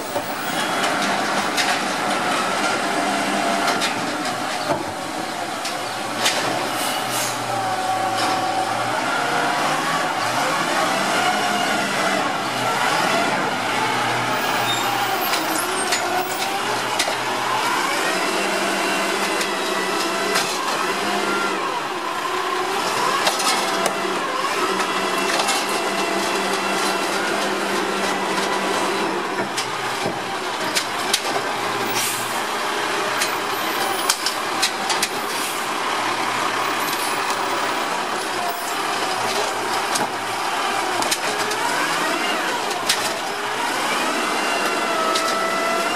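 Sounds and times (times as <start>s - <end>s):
garbage truck diesel engine: 0.0s - 45.9s.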